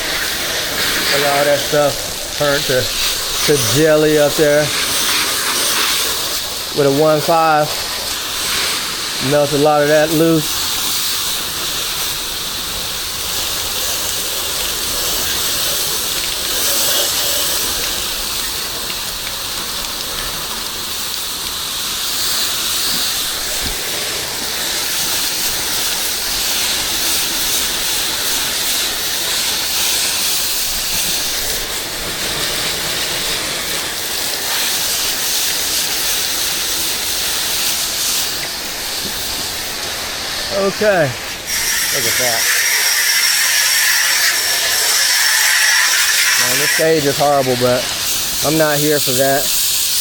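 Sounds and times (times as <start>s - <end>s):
pressure washer spraying: 0.0s - 50.0s.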